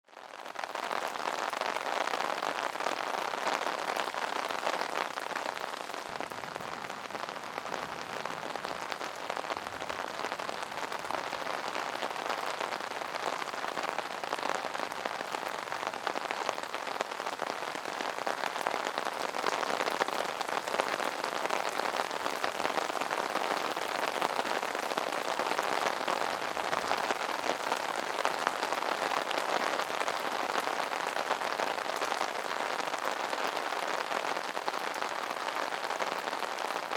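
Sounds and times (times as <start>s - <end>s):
rain on an umbrella: 0.0s - 36.9s.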